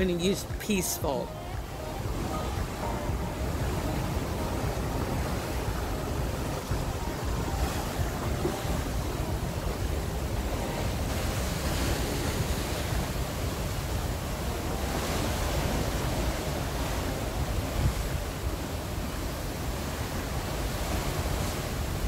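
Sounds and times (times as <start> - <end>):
water rushing along ship hull: 0.0 - 22.0.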